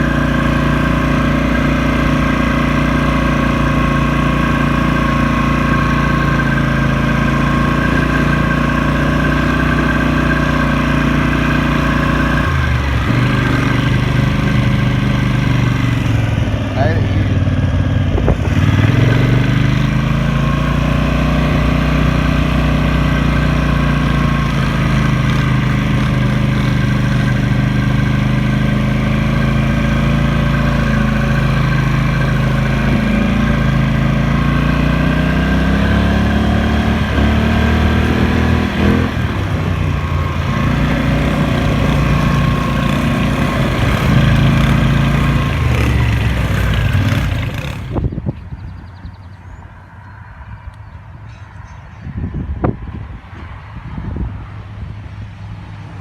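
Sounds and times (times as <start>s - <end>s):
small off-road engine revving: 0.0s - 49.5s.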